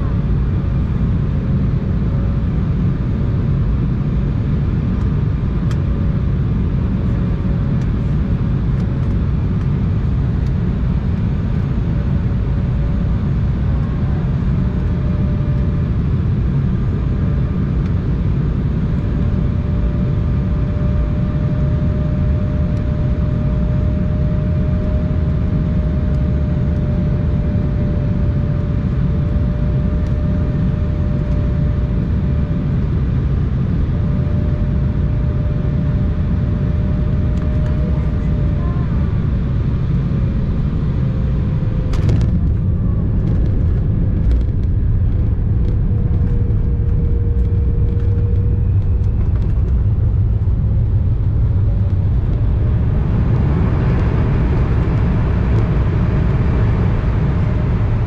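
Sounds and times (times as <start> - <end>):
jet cabin rumble: 0.0 - 58.0.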